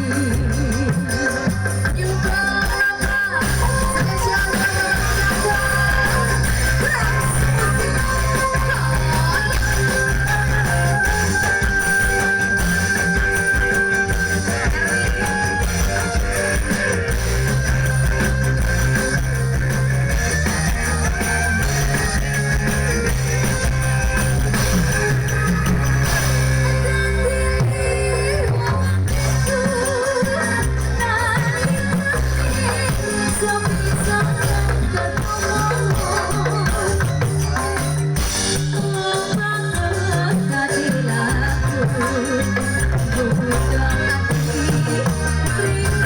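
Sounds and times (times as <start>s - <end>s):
band guitar: 0.0s - 46.0s
drums: 0.0s - 46.0s.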